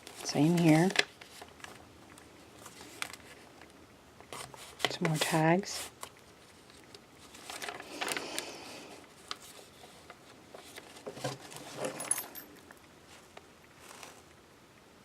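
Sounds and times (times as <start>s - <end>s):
paper pages rustling: 0.0s - 12.1s.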